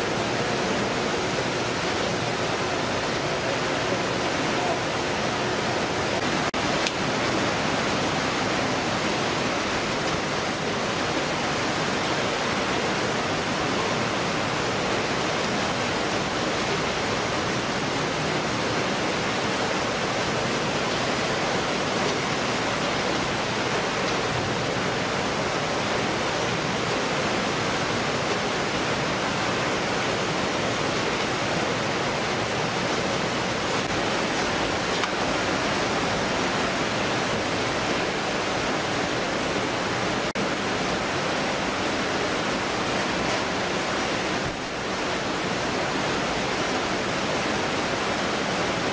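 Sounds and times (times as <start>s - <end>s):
conveyor machinery and water rushing: 0.0s - 48.9s.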